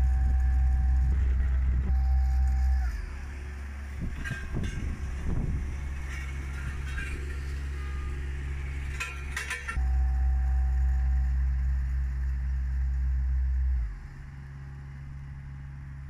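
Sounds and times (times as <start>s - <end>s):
road roller machine hum: 0.0s - 16.0s.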